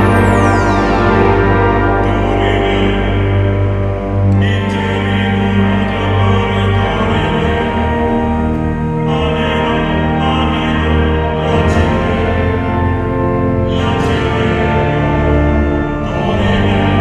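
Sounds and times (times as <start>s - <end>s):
long held chords: 0.0s - 17.0s
strong low bass notes: 0.0s - 17.0s.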